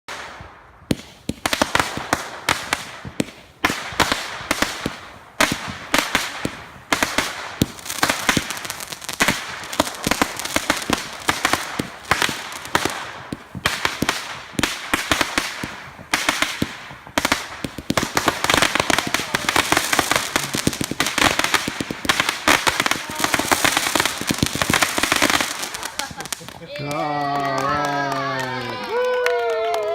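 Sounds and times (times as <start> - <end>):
fireworks bangs and crackling: 0.1 - 29.9.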